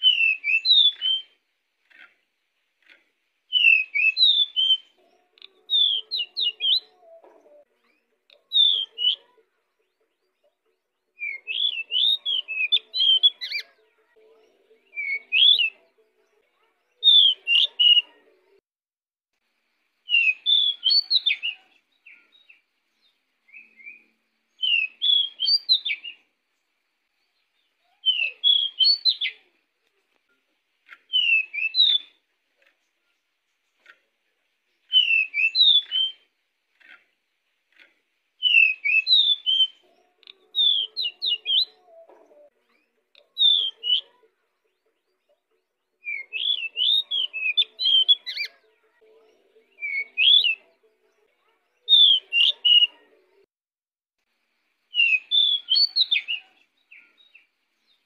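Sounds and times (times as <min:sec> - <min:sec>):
bird singing warbled phrases: 0:00.0 - 0:18.6, 0:19.9 - 0:53.5, 0:54.8 - 0:58.0.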